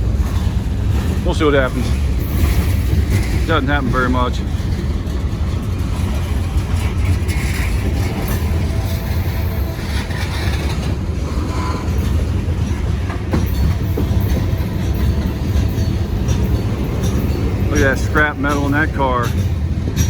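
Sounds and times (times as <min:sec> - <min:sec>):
freight train wheels rumbling on rail: 0:00.0 - 0:20.0
sharp clicks of train wheels: 0:00.0 - 0:20.0.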